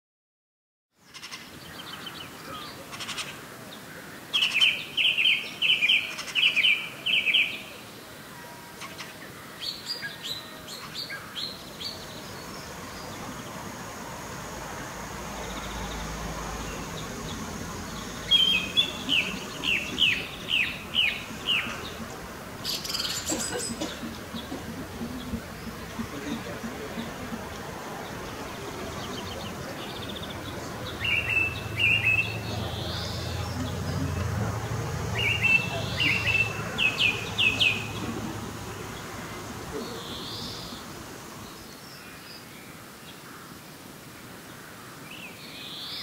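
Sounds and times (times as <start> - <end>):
outdoor background noise: 0.9 - 46.0
small birds chirping: 1.0 - 46.0.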